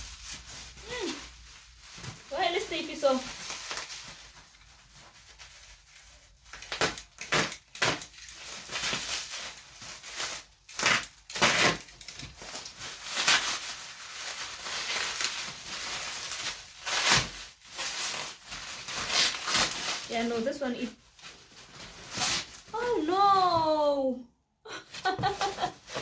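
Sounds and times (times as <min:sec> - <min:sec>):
packaging crinkling and tearing: 0:00.0 - 0:23.0, 0:25.0 - 0:26.0.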